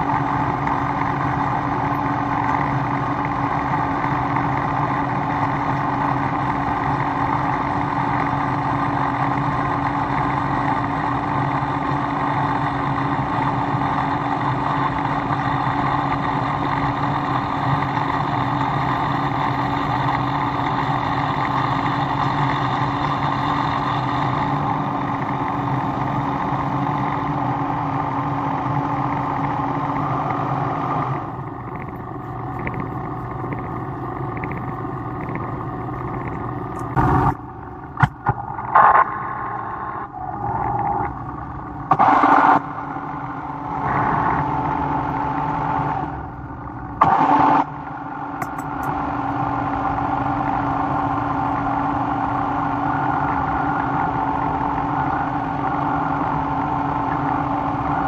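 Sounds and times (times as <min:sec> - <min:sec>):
shop machine motor humming: 0:00.0 - 0:58.0.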